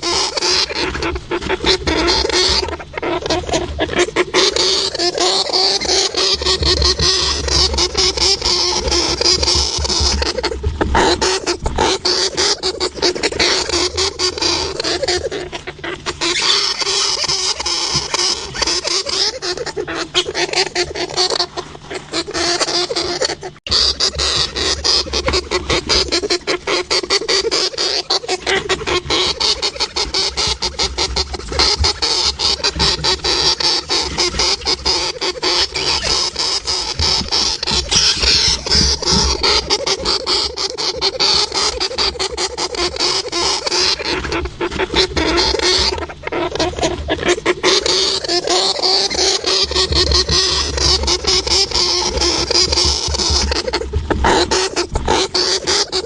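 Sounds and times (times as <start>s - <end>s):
hamster clicking and scratching: 0.0s - 56.0s.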